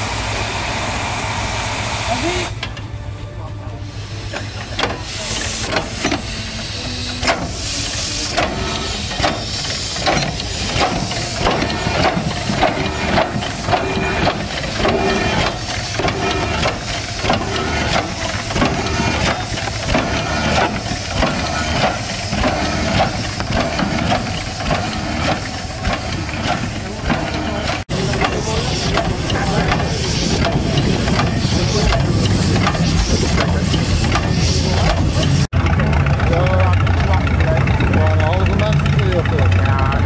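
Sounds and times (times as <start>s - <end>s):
steam hissing: 0.0s - 2.6s, 3.7s - 35.5s
steam engine knocking and clatter: 0.0s - 40.0s.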